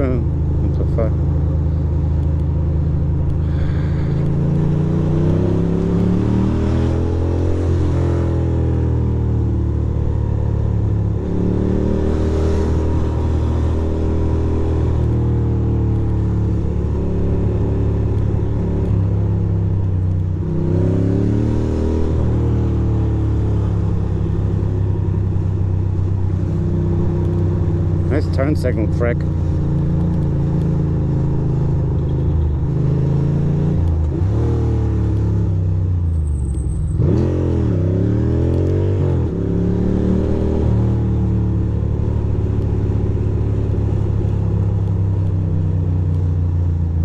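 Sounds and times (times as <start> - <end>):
motorcycle engine revving: 0.0 - 47.0
road and wind noise: 0.0 - 47.0.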